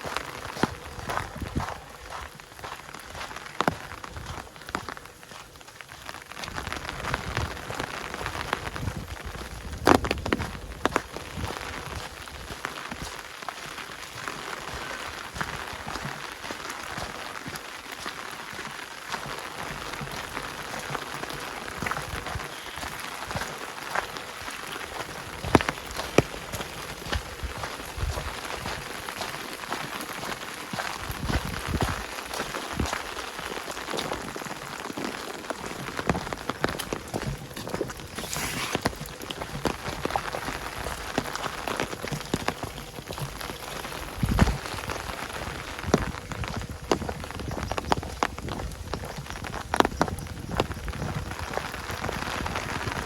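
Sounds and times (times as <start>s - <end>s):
rain hissing in forest: 0.0s - 53.0s
raindrops ticking: 0.0s - 53.0s.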